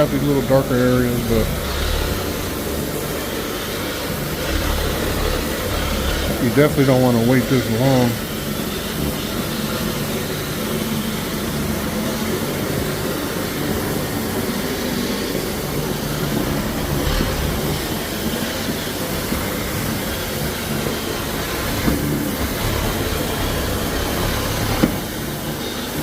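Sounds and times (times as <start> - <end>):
machine running steadily: 0.0 - 26.0.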